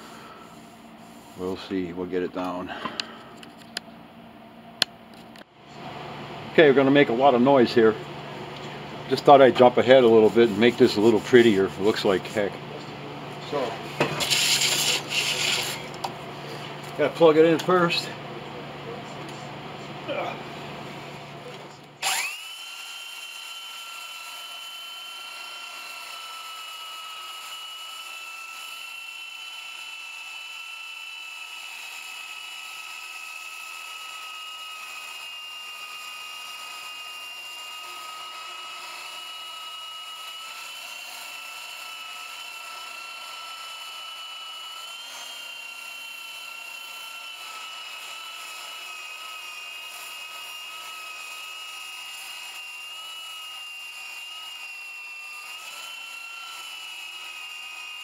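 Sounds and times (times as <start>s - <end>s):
power tool whining: 6.8s - 18.2s, 21.4s - 58.0s.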